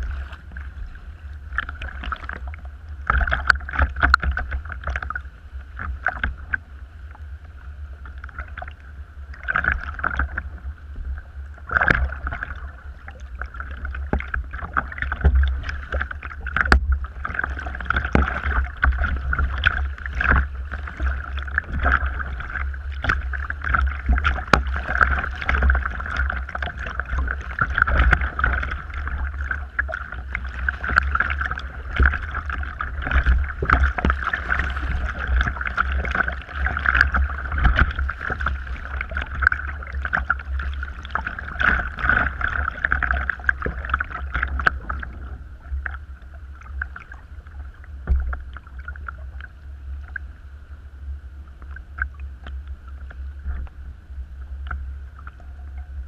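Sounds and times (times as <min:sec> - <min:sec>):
paddle dipping in water: 0:00.0 - 0:50.5
steady low rumble: 0:00.0 - 0:56.0
waves splashing against hull: 0:00.0 - 0:56.0.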